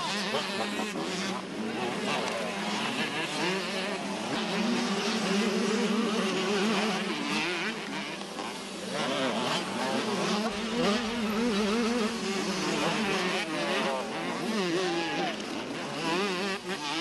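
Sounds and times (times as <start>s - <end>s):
motocross bikes racing: 0.0s - 17.0s.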